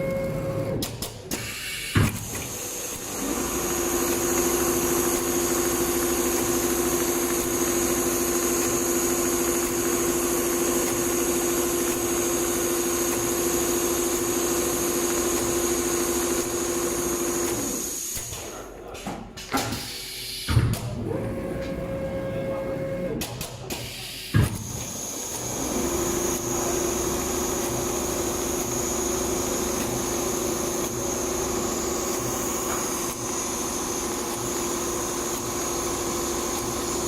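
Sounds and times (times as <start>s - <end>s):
sewing machine humming and whining: 0.0s - 0.9s, 2.2s - 18.2s, 21.0s - 23.2s, 24.6s - 37.0s.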